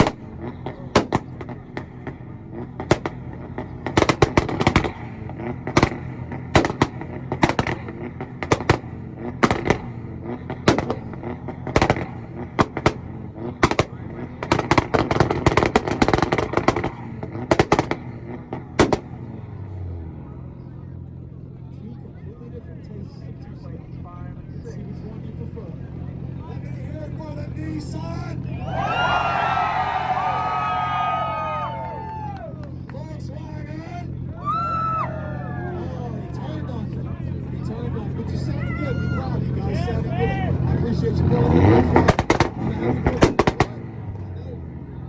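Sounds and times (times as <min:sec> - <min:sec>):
exhaust bangs and pops: 0:00.0 - 0:20.1, 0:24.3 - 0:45.0
car engine running: 0:00.0 - 0:45.0.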